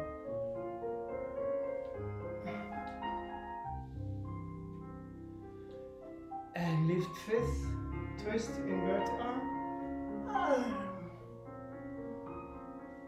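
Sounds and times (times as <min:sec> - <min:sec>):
solo piano chords and melody: 0:00.0 - 0:13.0.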